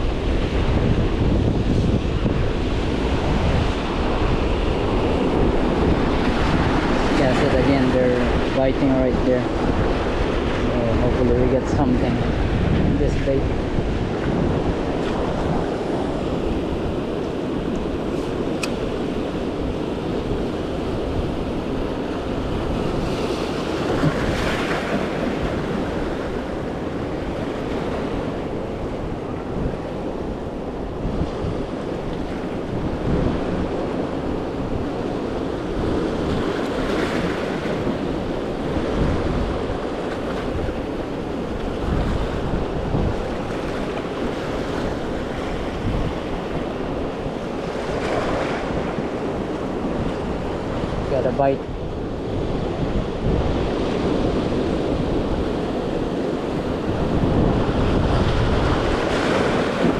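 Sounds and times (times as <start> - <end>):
ocean surf washing: 0.0 - 59.9
wind buffeting the microphone: 0.0 - 59.9.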